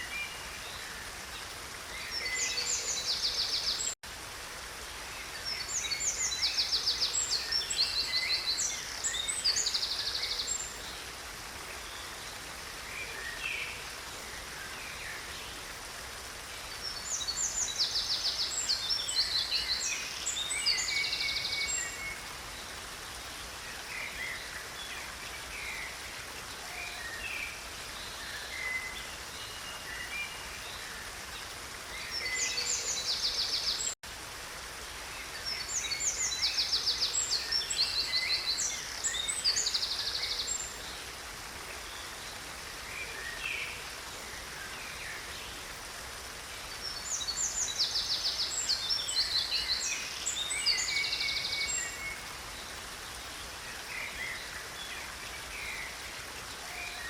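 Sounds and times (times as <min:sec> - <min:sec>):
songbirds singing: 0:00.0 - 0:57.0
stream water rushing: 0:00.0 - 0:57.0.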